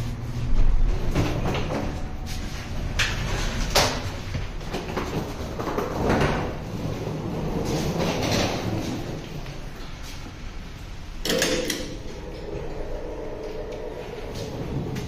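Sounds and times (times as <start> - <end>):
elevator doors sliding open: 0.0 - 15.0
elevator low hum: 0.0 - 15.0.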